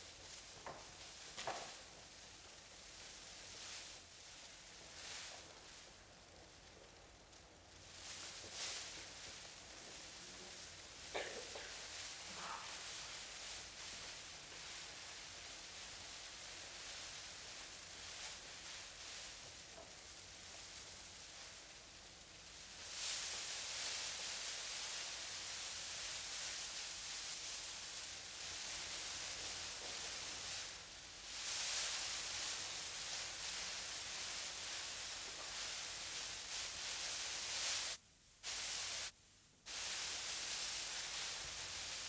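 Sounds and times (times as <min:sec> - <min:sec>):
static hiss: 0:00.0 - 0:42.0.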